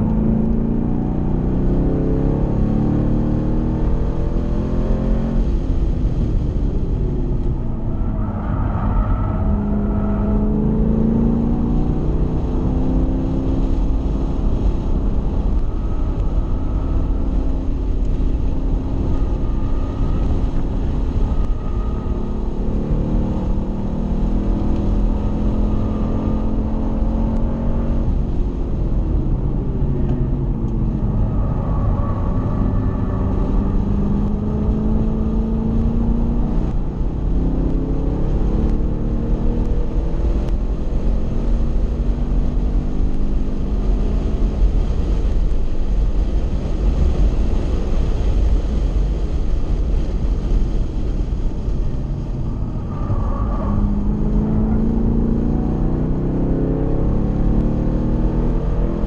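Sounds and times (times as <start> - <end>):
car engine revving: 0.0 - 59.0
wind and road noise: 0.0 - 59.0.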